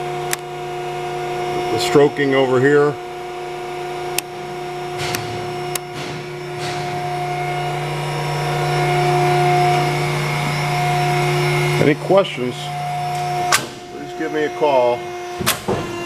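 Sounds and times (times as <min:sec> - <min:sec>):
power shear motor humming: 0:00.0 - 0:16.0.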